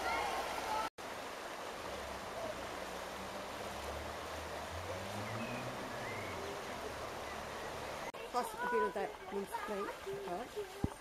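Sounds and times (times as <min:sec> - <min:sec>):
river water over rapids: 0:00.0 - 0:11.0.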